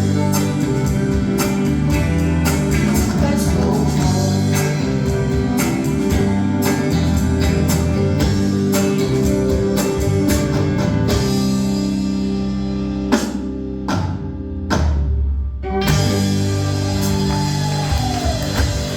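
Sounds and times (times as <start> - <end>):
band playing with guitars and drums: 0.0 - 14.9, 15.6 - 18.9.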